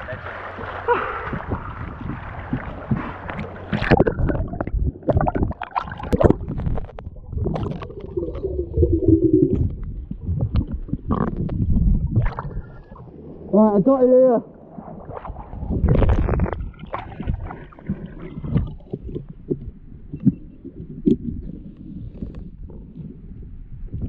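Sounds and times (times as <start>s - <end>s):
water sloshing: 0.0s - 13.6s, 14.4s - 23.0s
muffled underwater water movement: 0.0s - 24.0s
underwater clicks and knocks: 0.6s - 12.6s, 15.8s - 23.2s.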